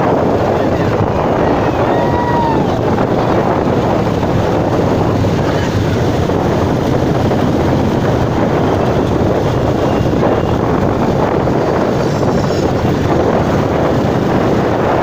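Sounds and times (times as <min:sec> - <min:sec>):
motorcycle engines rumbling: 0:00.0 - 0:15.0
wind noise on microphone: 0:00.0 - 0:15.0.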